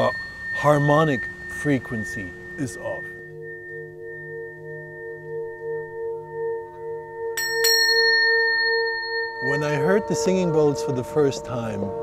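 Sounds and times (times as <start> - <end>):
singing bowl ringing: 0.0 - 12.0
small cymbals ringing: 0.0 - 12.0.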